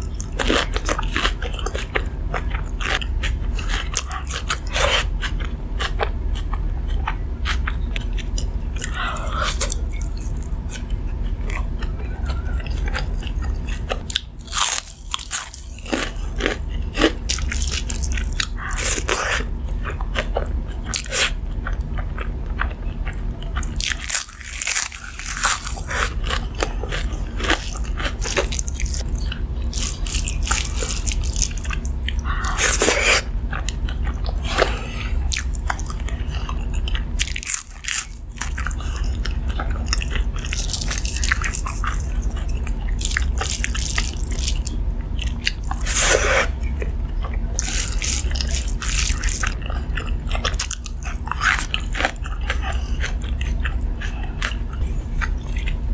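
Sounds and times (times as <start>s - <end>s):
crunchy eating and chewing: 0.0s - 55.9s
low hum: 0.0s - 55.9s.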